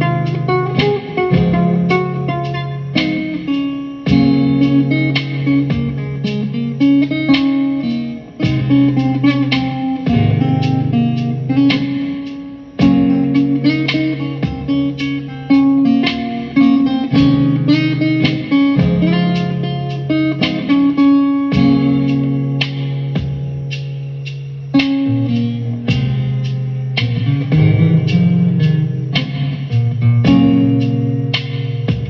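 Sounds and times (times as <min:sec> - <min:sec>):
guitar music: 0:00.0 - 0:32.0.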